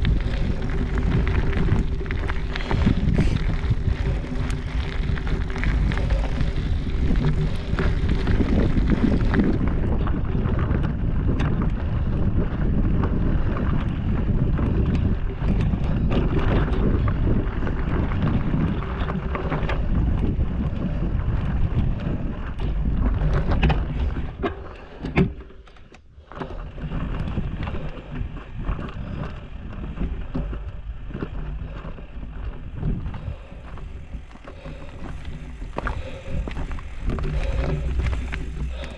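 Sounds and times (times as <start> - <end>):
wind on microphone: 0.0 - 25.4, 26.3 - 38.9
bike rattling over rocky trail: 0.0 - 38.9.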